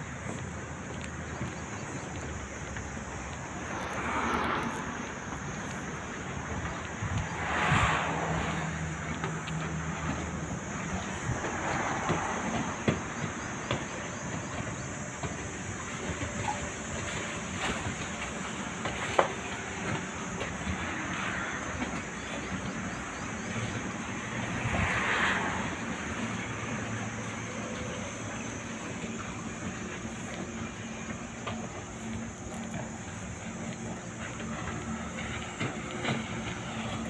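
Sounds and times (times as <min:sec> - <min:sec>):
steady outdoor rushing noise: 0:00.0 - 0:37.0.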